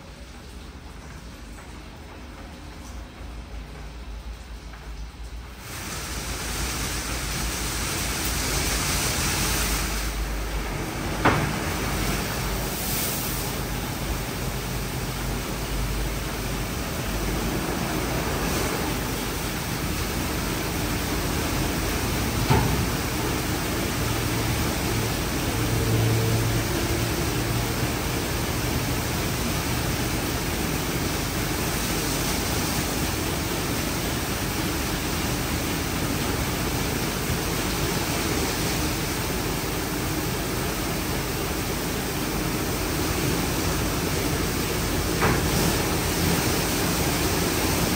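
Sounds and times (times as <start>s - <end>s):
water spraying over car: 5.2s - 47.9s.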